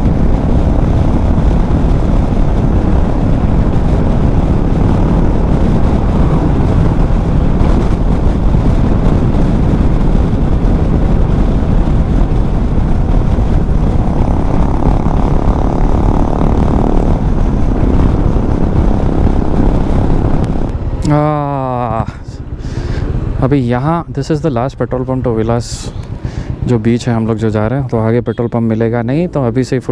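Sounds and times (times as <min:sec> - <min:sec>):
motorcycle engine cruising: 0:00.0 - 0:29.9
wind rush on microphone: 0:00.0 - 0:29.9.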